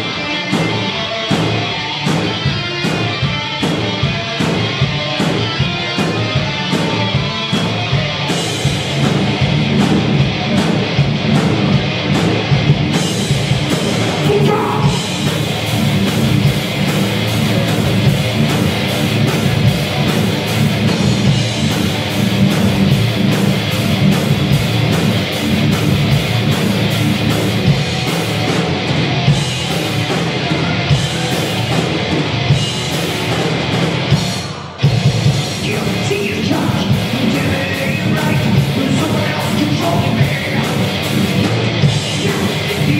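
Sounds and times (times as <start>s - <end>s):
heavy metal band playing live: 0.0s - 42.9s
steady drum beat: 0.0s - 42.9s.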